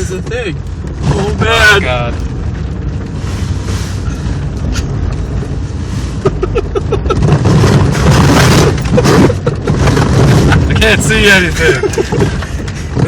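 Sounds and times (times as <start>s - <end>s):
car engine rumbling under load: 0.0s - 13.0s
snow spraying and scraping car: 0.0s - 13.0s.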